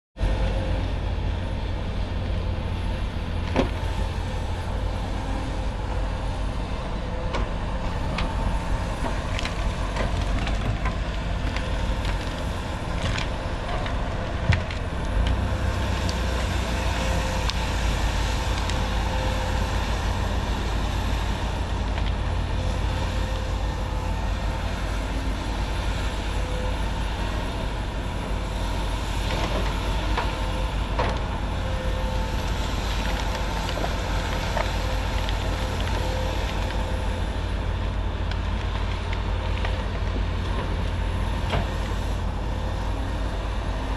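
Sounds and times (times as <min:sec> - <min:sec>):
diesel engine running: 0:00.2 - 0:43.9.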